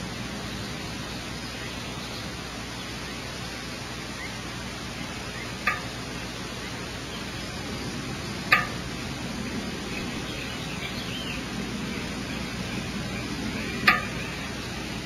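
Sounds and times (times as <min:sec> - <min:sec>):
steady microphone hiss: 0:00.0 - 0:15.0.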